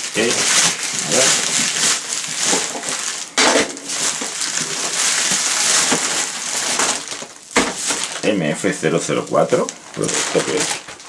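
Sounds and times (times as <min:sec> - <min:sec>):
plastic bag and bubble wrap crinkling: 0:00.0 - 0:11.0.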